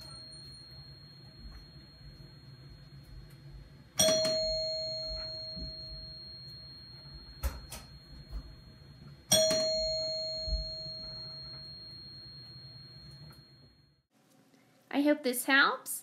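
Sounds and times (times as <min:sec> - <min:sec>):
doorbell chime: 0:00.0 - 0:14.0.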